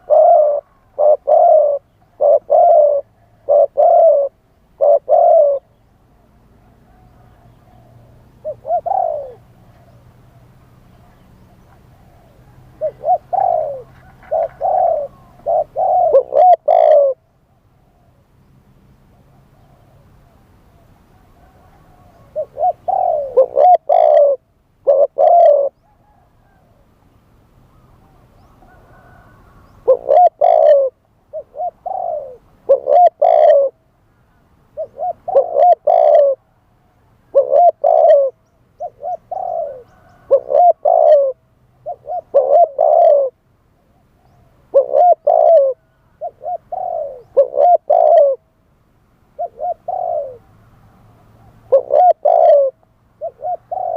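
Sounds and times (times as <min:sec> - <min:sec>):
dove cooing: 0:00.0 - 0:05.8, 0:06.6 - 0:18.2, 0:19.1 - 0:26.9, 0:27.7 - 0:48.5, 0:49.3 - 0:53.9.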